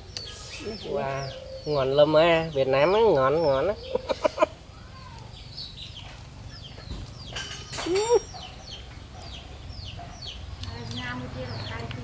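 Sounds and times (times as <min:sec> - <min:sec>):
chickens clucking: 0:00.1 - 0:04.7, 0:05.4 - 0:12.0.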